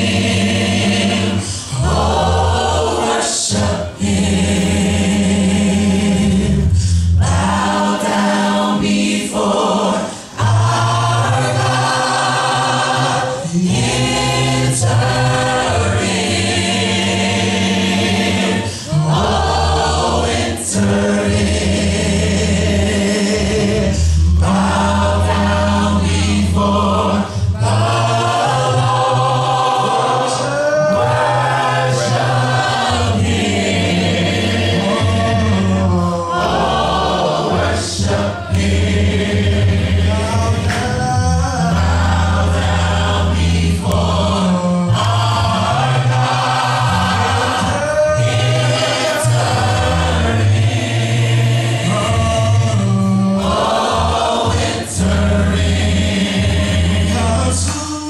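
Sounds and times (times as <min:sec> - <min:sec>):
low bass notes: 0:00.0 - 0:58.0
vocal group singing harmony: 0:00.0 - 0:58.0.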